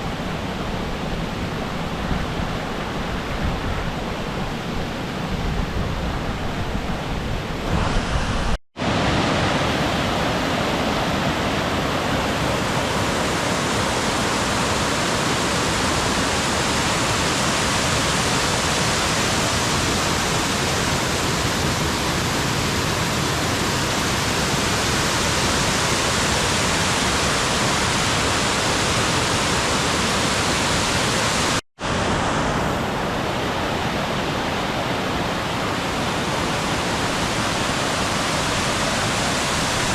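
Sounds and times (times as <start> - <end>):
rushing mountain water: 0.0 - 39.9.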